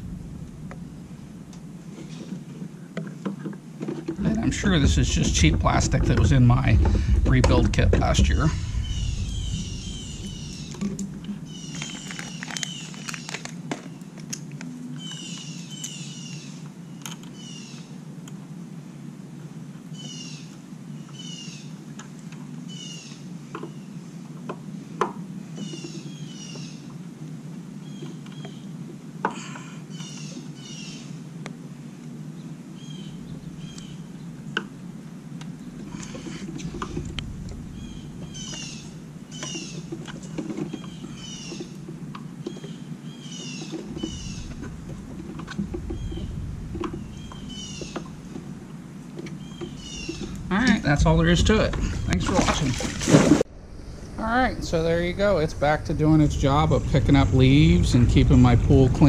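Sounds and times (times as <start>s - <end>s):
birds chirping: 0.0s - 18.0s, 19.8s - 59.0s
steady low hum: 0.0s - 59.0s.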